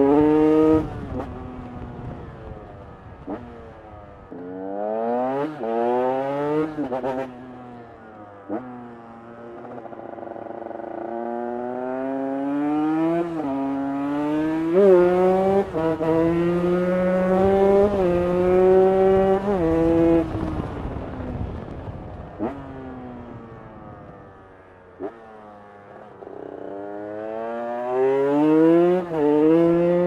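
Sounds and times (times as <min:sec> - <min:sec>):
two-stroke engine accelerating hard: 0:00.0 - 0:24.2, 0:24.8 - 0:30.0.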